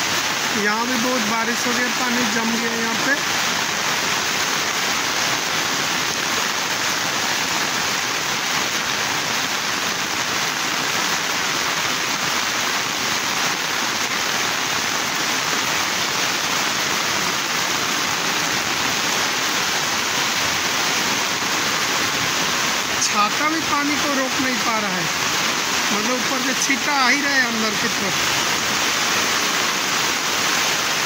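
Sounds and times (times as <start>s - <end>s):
heavy rain on road: 0.0s - 31.0s
rain pattering on umbrella: 0.1s - 31.0s.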